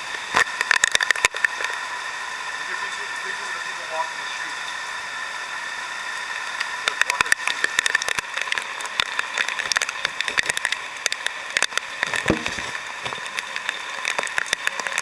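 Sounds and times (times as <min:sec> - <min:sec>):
raindrops tapping microphone: 0:00.0 - 0:04.8, 0:06.2 - 0:15.0
heavy rain hissing: 0:00.0 - 0:15.0.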